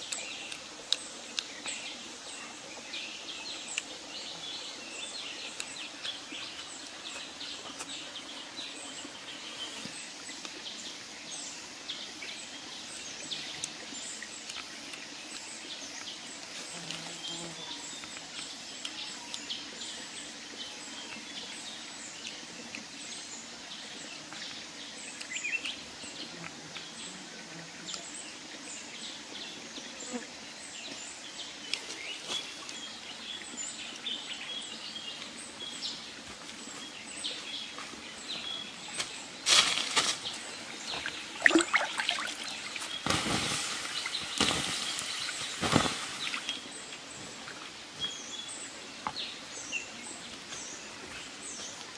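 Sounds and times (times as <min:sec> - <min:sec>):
background hiss: 0:00.0 - 0:51.9
small birds chirping: 0:00.0 - 0:51.9.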